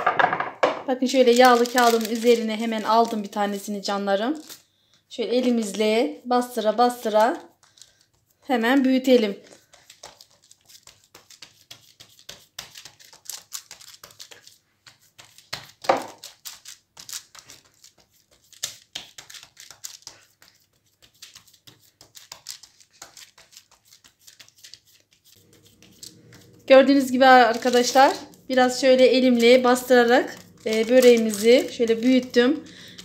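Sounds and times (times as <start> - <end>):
baking paper crinkling: 1.0 - 4.7, 6.6 - 33.0.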